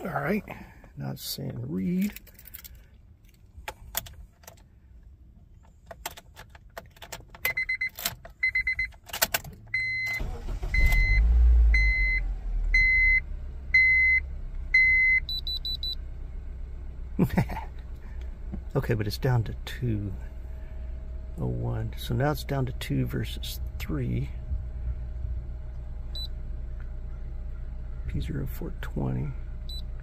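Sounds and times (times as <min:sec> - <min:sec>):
car engine cranking and idling: 0:00.0 - 0:30.0.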